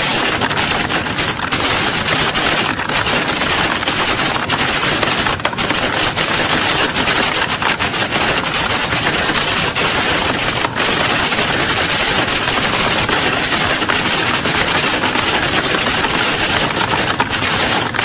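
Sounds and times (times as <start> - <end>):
many people typing on keyboards: 0.0 - 18.0.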